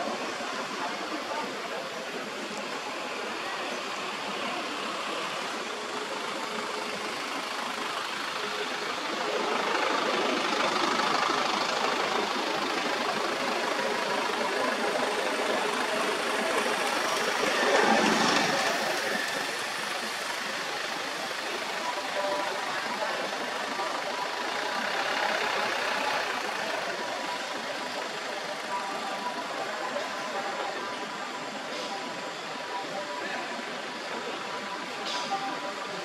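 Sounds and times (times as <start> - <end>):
engine running: 0.0 - 32.7.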